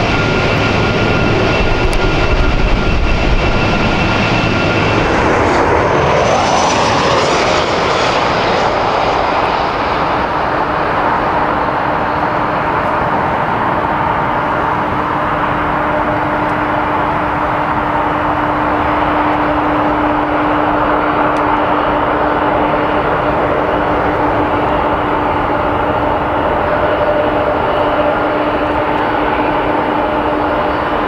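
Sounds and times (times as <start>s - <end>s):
constant whining tone: 0.0s - 31.0s
jet engines running: 0.0s - 31.0s.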